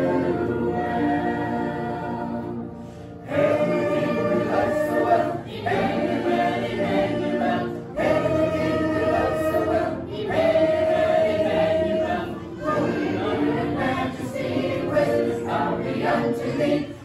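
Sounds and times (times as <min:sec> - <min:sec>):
mixed choir singing a hymn: 0:00.0 - 0:17.0.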